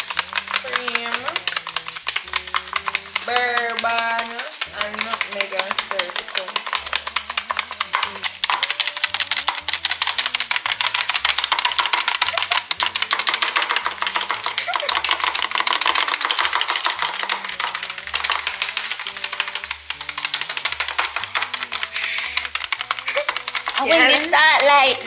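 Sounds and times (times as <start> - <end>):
whisk clicking against bowl: 0.0 - 25.0.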